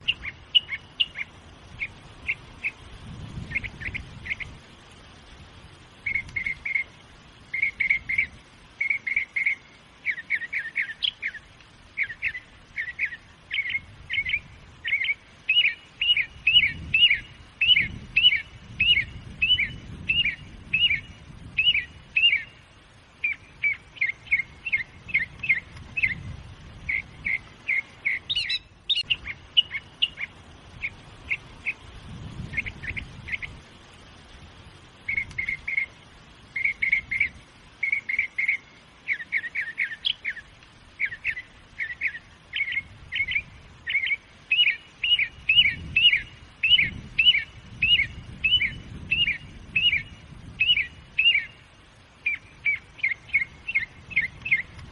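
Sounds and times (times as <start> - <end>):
songbird chirping: 0.0 - 54.9.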